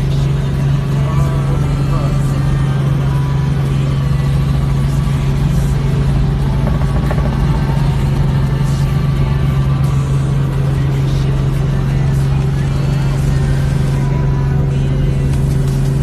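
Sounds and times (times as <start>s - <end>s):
helicopter droning: 0.0s - 16.0s.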